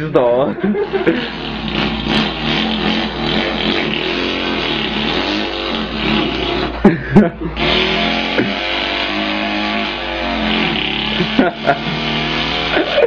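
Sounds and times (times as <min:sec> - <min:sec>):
man imitating engine with voice: 0:00.0 - 0:06.8, 0:07.5 - 0:13.0.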